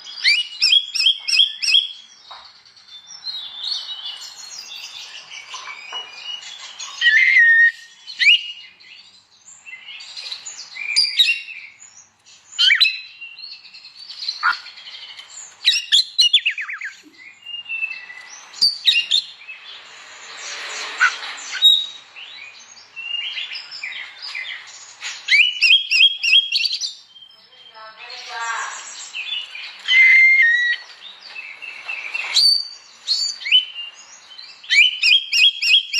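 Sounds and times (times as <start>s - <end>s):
magpie-robin singing: 0.0s - 19.7s, 21.0s - 35.9s.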